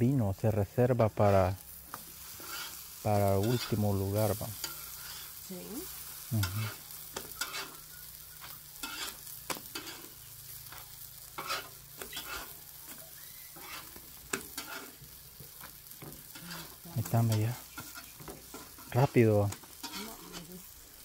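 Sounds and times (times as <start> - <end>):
food sizzling on a griddle: 0.0 - 21.0.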